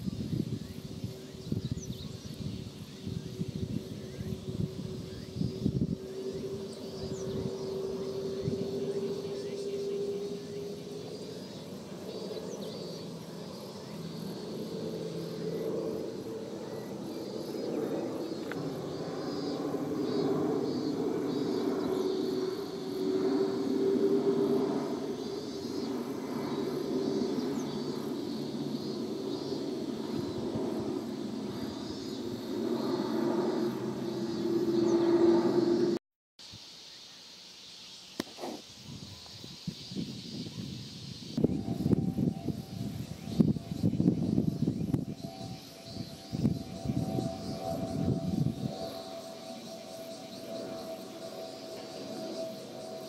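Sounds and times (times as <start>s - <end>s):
jet airliner passing overhead: 0.0s - 36.0s, 39.9s - 53.0s
insects buzzing: 0.0s - 53.0s.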